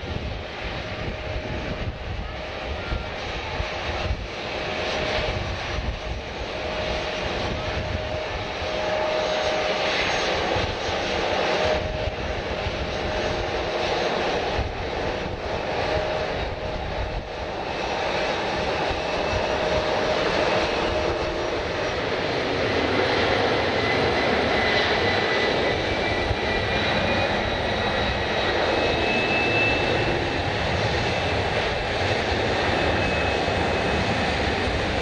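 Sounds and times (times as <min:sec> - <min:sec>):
airliner engines running: 0:00.0 - 0:35.0.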